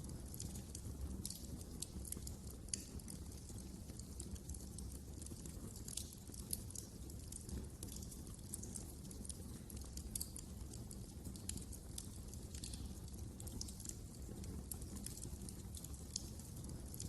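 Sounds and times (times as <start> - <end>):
low rumble of burning fire: 0.0 - 17.0
wood fire crackling and popping: 0.0 - 17.0.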